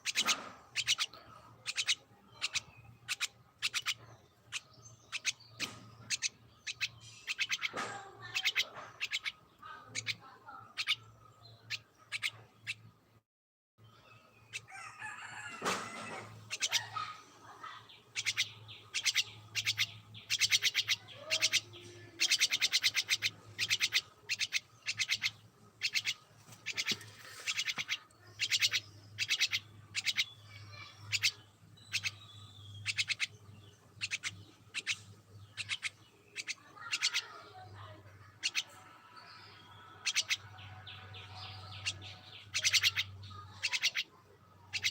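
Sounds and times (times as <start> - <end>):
birds chirping: 0.0 - 13.2, 13.8 - 44.9.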